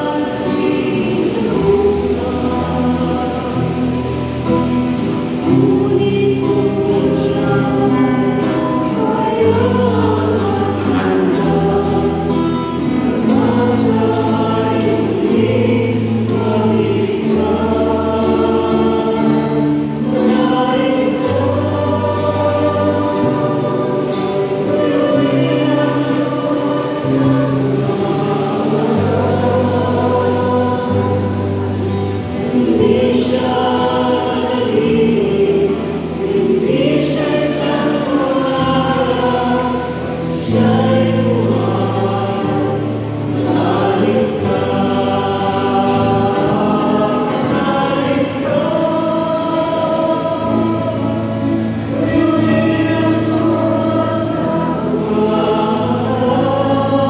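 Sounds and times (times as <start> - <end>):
choir singing a hymn: 0.0 - 57.0
guitar accompaniment: 0.0 - 57.0.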